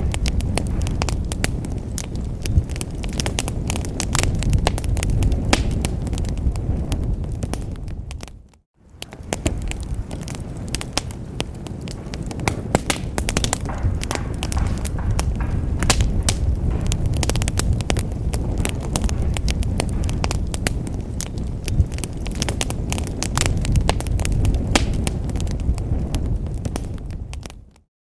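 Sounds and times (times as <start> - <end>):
low rumble of burning: 0.0 - 27.8
wood fire crackling and popping: 0.0 - 27.8.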